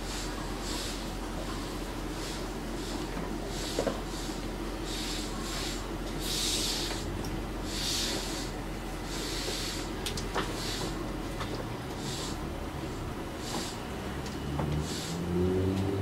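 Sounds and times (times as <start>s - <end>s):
hiss: 0.0s - 1.1s, 2.1s - 11.1s, 12.0s - 13.9s, 14.6s - 16.0s
subway car rumble: 0.0s - 16.0s.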